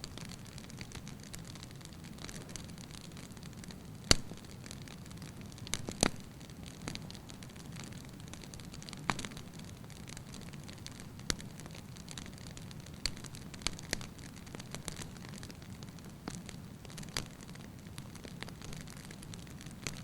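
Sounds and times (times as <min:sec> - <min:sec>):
logs popping and crackling: 0:00.0 - 0:20.0
wood fire burning: 0:00.0 - 0:20.0.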